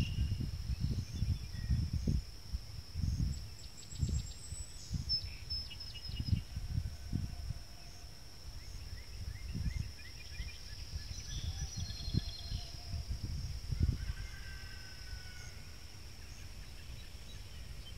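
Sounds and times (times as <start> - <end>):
songbirds chirping and trilling: 0.0 - 2.3, 2.9 - 17.9
wind rumble on microphone: 0.0 - 17.9.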